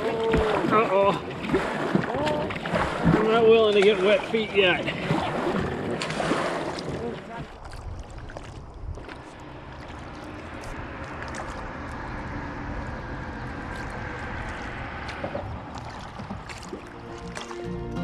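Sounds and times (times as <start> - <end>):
water rushing and gurgling: 0.0 - 18.0.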